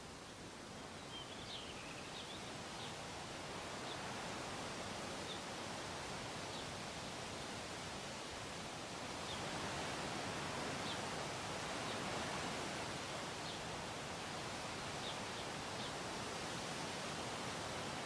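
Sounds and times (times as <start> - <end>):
outdoor noise hiss: 0.0 - 18.0.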